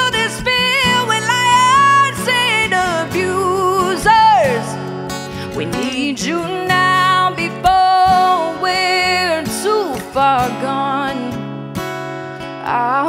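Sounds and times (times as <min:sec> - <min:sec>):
woman singing with vibrato: 0:00.0 - 0:11.4, 0:12.6 - 0:13.0
strummed acoustic guitar: 0:00.0 - 0:13.0.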